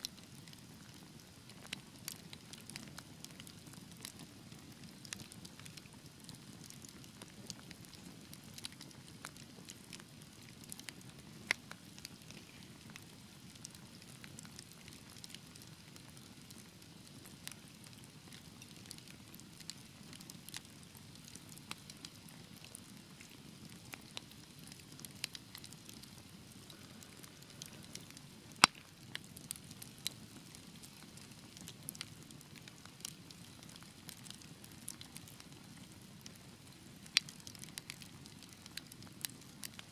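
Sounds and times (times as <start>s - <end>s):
fire burning in a fireplace: 0.0s - 39.9s
fire crackling and popping: 0.0s - 39.9s.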